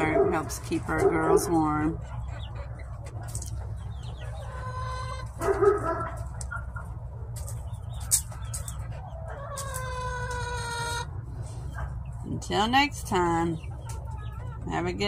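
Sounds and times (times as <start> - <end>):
hens clucking: 0.0 - 15.0
steady low hum: 0.0 - 15.0.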